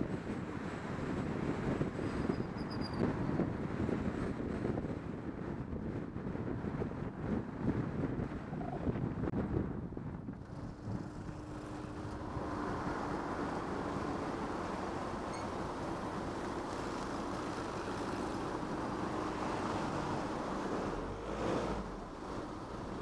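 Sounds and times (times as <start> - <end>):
car road and engine noise: 0.0 - 23.0
wind noise on microphone: 0.0 - 23.0.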